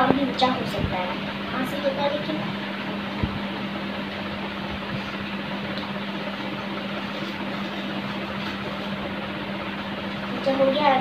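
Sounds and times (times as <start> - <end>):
electric fan whirring: 0.0 - 11.0.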